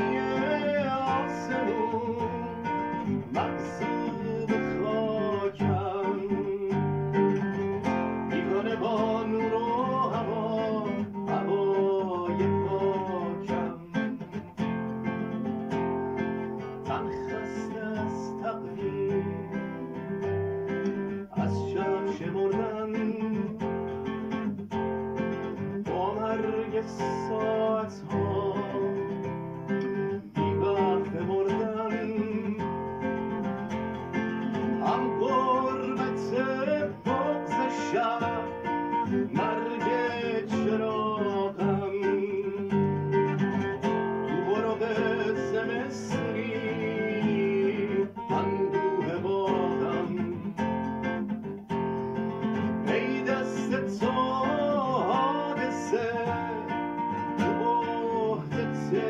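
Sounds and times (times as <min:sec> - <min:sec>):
classical guitar solo: 0:00.0 - 0:59.0.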